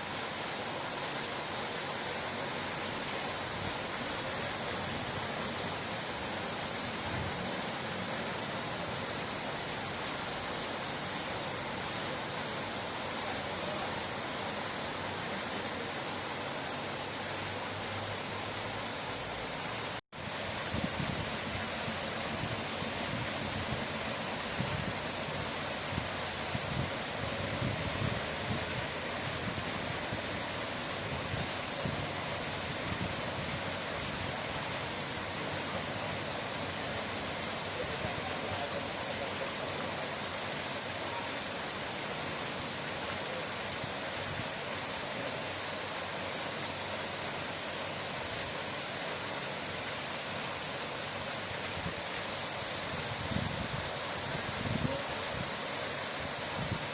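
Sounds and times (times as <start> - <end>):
water rushing: 0.0 - 56.9.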